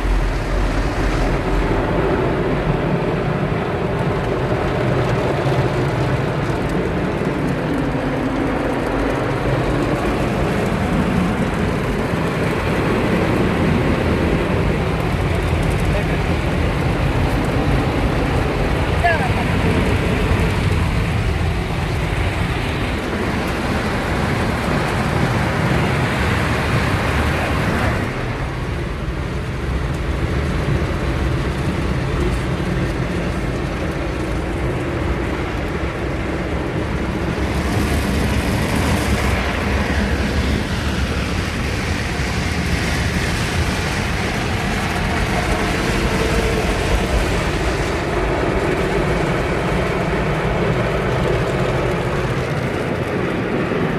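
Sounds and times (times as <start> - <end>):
car wash machinery rumbling: 0.0 - 53.9
water spraying on car body: 0.0 - 53.9.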